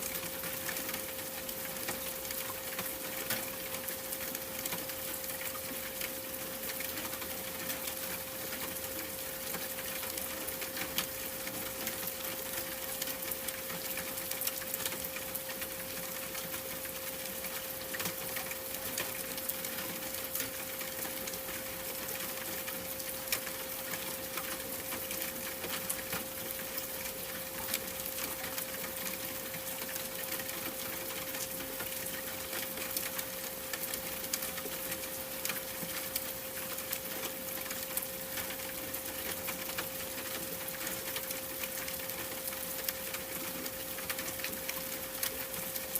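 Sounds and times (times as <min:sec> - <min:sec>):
constant hiss: 0:00.0 - 0:45.9
small irregular ticks: 0:00.0 - 0:45.9.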